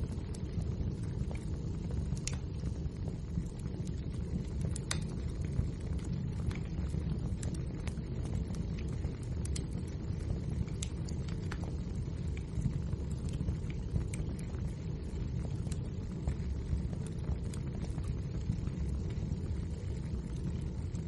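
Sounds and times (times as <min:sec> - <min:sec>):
burning logs crackling: 0:00.0 - 0:21.0
fire roaring: 0:00.0 - 0:21.0.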